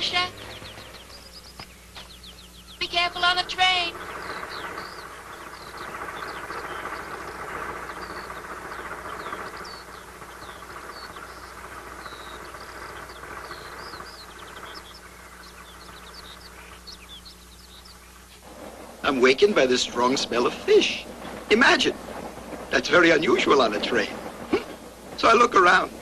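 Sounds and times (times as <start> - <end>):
small birds chirping: 0.0 - 26.0
train rumbling on rails: 0.0 - 26.0.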